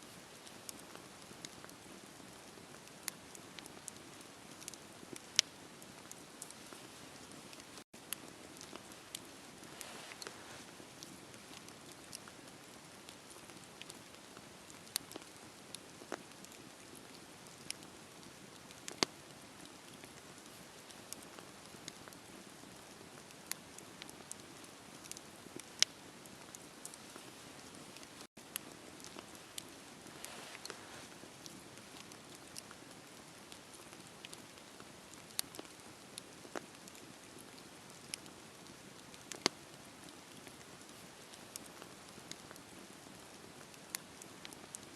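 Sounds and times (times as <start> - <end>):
wood fire crackling: 0.1 - 44.9.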